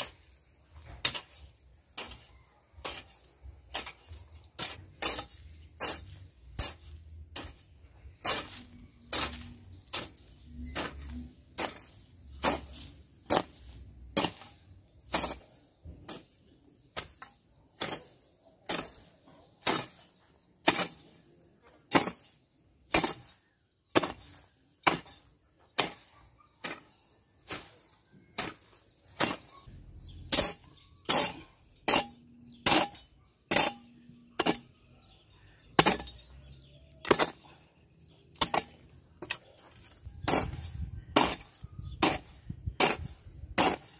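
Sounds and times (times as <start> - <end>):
hoe chopping into dry soil: 0.0 - 29.6, 35.8 - 36.4, 37.0 - 37.5, 38.2 - 43.9.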